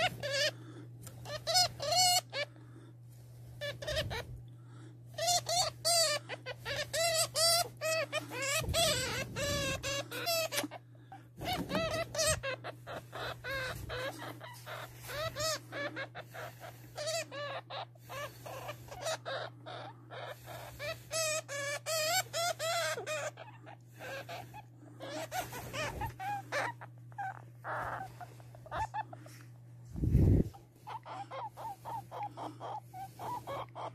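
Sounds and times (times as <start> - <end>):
hamster squeaking: 0.0 - 0.6, 1.2 - 2.5, 3.6 - 4.4, 5.1 - 10.8, 11.4 - 33.9
low steady hum: 0.0 - 33.9.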